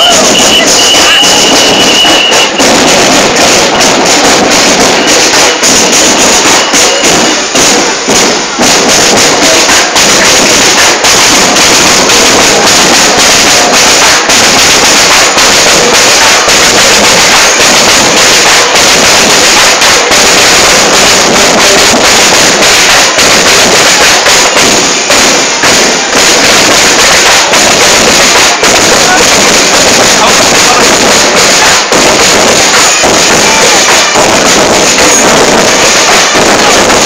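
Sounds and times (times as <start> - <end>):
marching drum band playing: 0.0 - 37.0.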